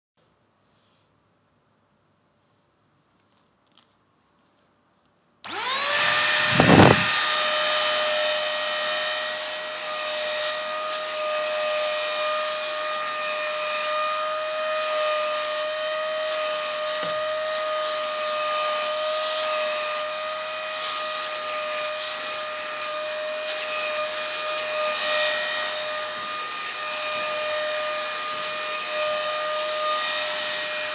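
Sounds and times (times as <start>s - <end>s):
vacuum cleaner motor whining: 5.4s - 30.9s.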